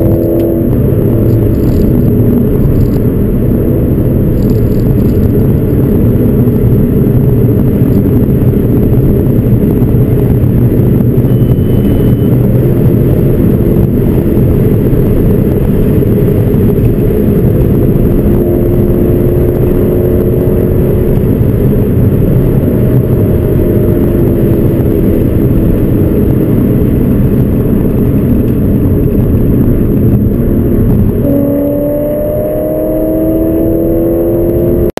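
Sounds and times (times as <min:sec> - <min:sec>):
car engine accelerating: 0:00.0 - 0:34.9
wind and road noise: 0:00.0 - 0:34.9.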